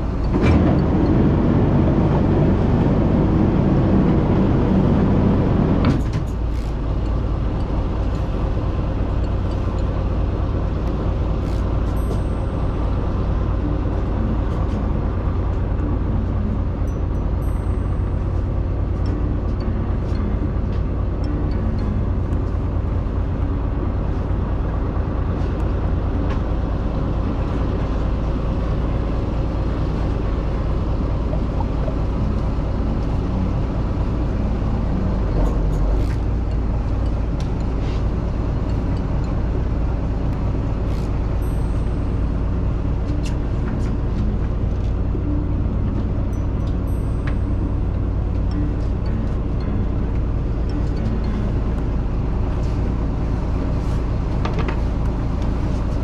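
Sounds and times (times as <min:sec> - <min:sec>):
boat engine rumbling: 0:00.0 - 0:56.0.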